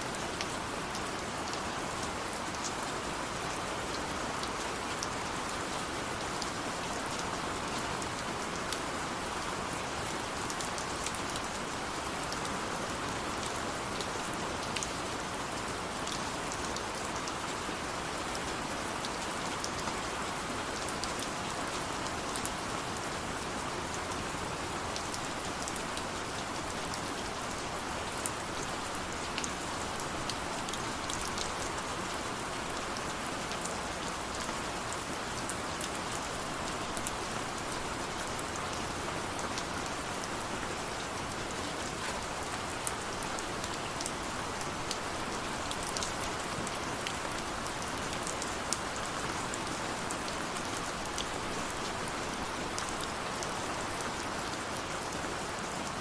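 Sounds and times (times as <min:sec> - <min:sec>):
rain drops ticking on a surface: 0:00.0 - 0:56.0.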